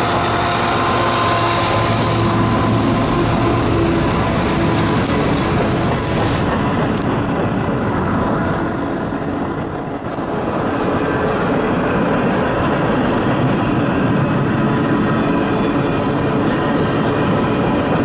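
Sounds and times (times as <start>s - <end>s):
freight train wheels on rail: 0.0s - 18.0s.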